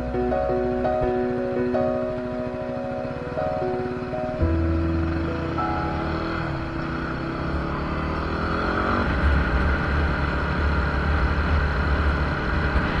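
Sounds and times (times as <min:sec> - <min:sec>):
engine and road noise: 0:00.0 - 0:13.0
motorcycle engine pulling away: 0:01.3 - 0:13.0.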